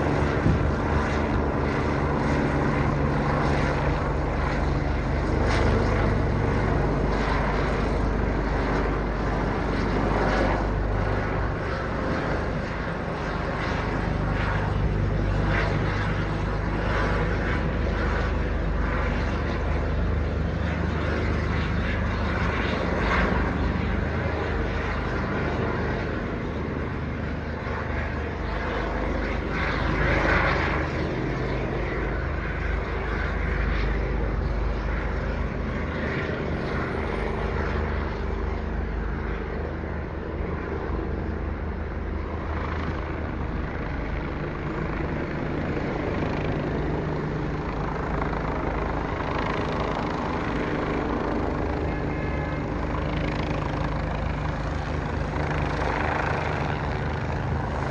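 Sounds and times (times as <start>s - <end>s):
helicopter passing overhead: 0.0s - 57.9s.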